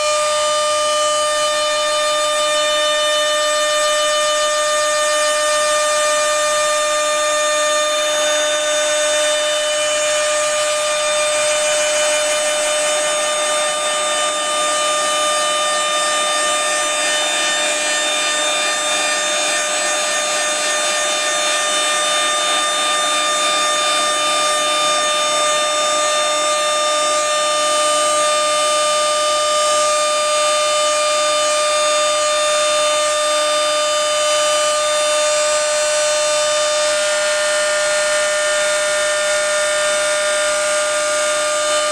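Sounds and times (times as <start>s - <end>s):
router spindle whining while cutting: 0.0s - 41.9s.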